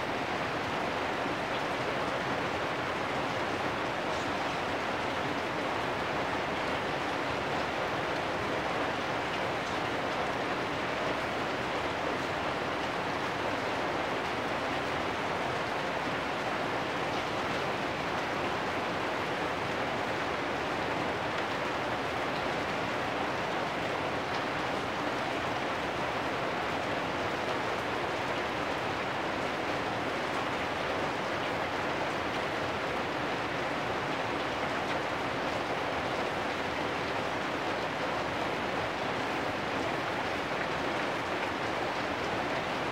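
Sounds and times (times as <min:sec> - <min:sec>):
rain on metal roofs: 0:00.0 - 0:42.9.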